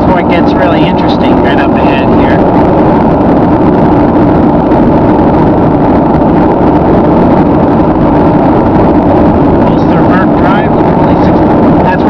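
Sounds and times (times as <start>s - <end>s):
car road noise from inside: 0.0s - 12.0s.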